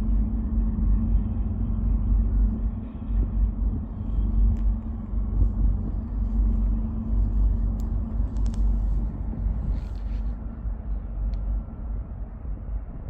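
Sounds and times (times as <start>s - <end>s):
low uneven rumble: 0.0s - 13.0s
steady hum: 0.0s - 13.0s.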